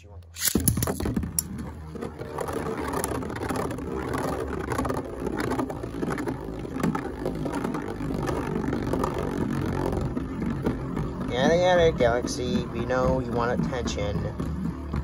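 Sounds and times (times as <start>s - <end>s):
spinning tops rattling whir: 0.3s - 15.0s.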